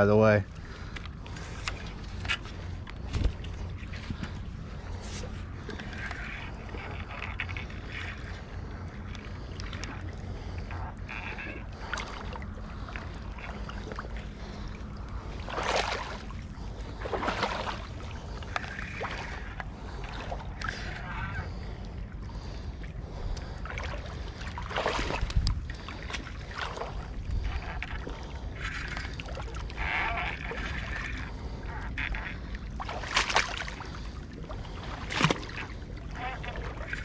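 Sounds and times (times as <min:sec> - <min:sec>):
wind rumbling on microphone: 0:00.0 - 0:33.0
water lapping at bank: 0:00.0 - 0:37.0.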